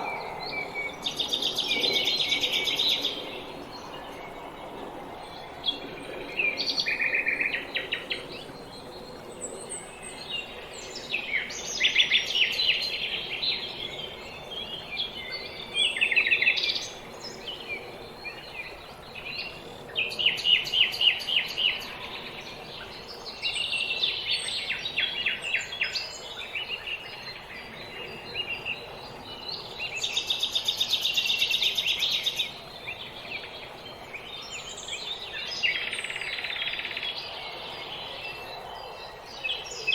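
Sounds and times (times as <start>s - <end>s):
songbirds singing trills: 0.0s - 39.9s
steady background hiss: 0.0s - 39.9s.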